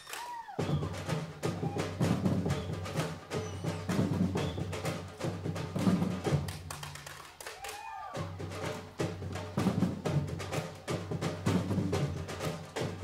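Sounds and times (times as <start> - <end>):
smaller drums and hand percussion: 0.0 - 13.0.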